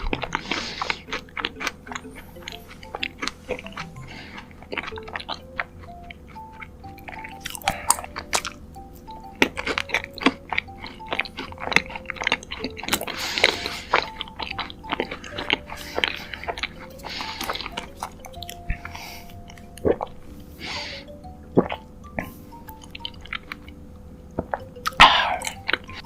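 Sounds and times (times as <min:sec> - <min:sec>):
chewing and crunching sweets: 0:00.0 - 0:26.0
soft background music: 0:00.0 - 0:26.0.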